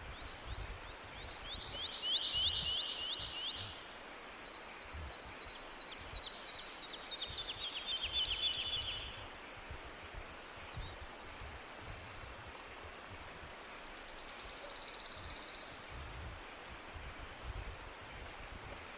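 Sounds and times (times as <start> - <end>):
low wind rumble: 0.0 - 18.9.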